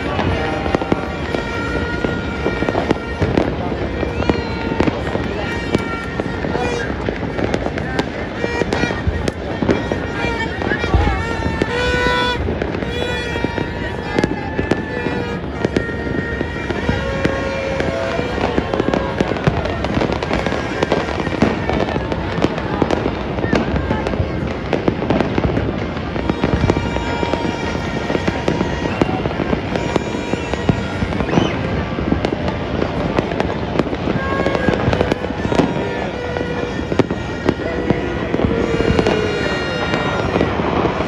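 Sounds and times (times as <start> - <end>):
fireworks and firecrackers banging: 0.0 - 41.0.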